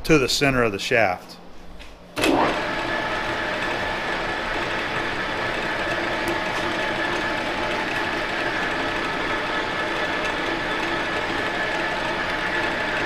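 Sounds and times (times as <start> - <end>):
lathe drone and gear whine: 2.3 - 13.0.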